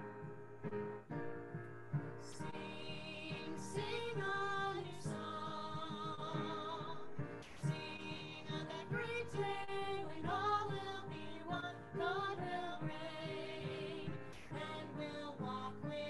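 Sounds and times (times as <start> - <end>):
piano playing: 0.0 - 16.0
woman and girl singing hymn: 2.2 - 16.0.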